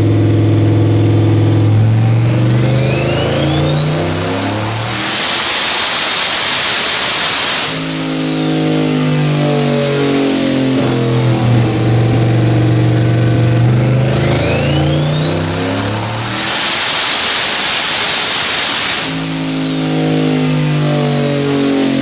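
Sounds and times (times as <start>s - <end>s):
engine at full throttle: 0.0s - 22.0s
turbo whistle: 1.5s - 20.4s.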